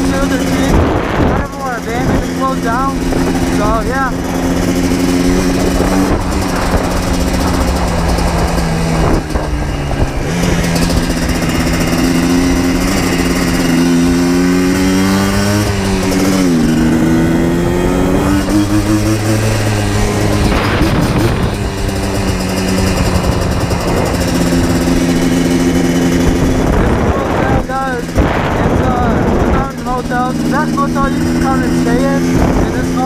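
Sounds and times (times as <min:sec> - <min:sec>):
two-stroke engine running: 0:00.0 - 0:33.0.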